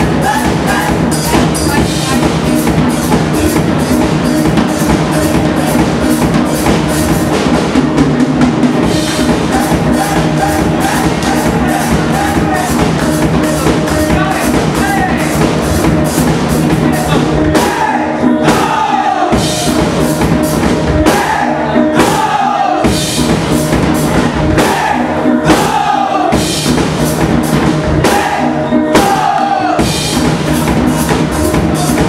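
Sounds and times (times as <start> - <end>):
steel pan band playing: 0.0 - 32.0.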